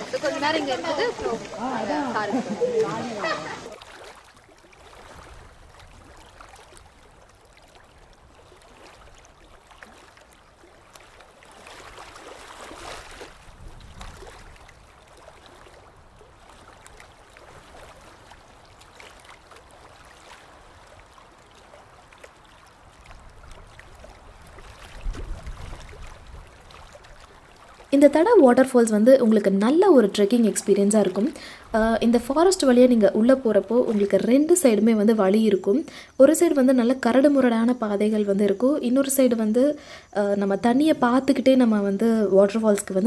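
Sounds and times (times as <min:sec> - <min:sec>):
stream water flowing: 0:00.0 - 0:43.0.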